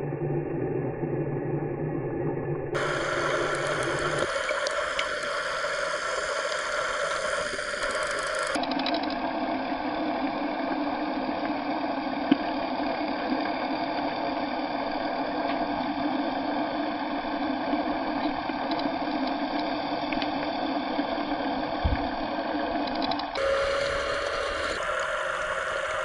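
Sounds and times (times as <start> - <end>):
steady motor hum: 2.8 - 26.0.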